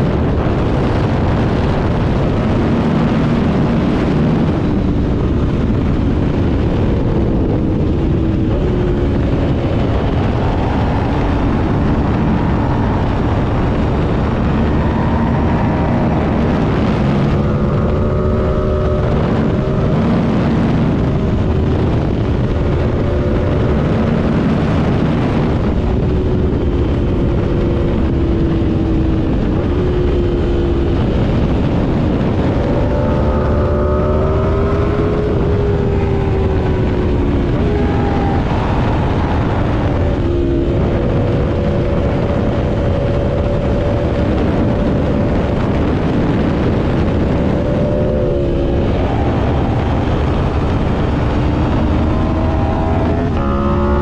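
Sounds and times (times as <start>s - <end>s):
motorcycle engine at speed: 0.0s - 54.0s
wind rush on microphone: 0.0s - 54.0s.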